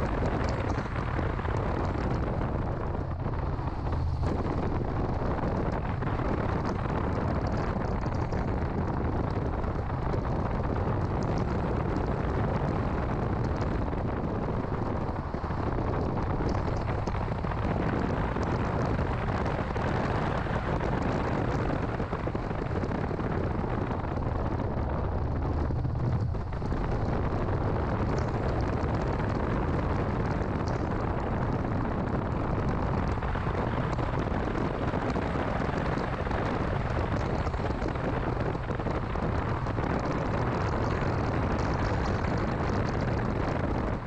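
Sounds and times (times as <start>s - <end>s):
car engine driving: 0.0s - 44.0s
road noise: 0.0s - 44.0s.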